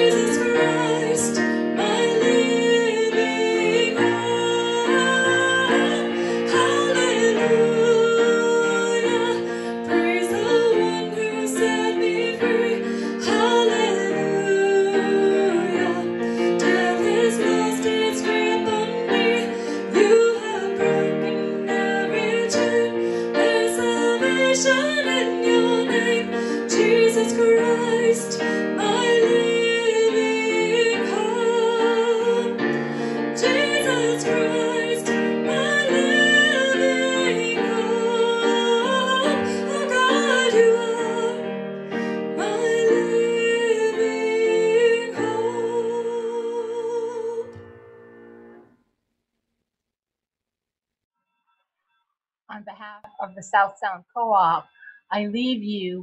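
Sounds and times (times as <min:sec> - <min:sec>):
woman singing with vibrato: 0:00.0 - 0:41.5, 0:52.5 - 0:56.0
grand piano: 0:00.0 - 0:48.7.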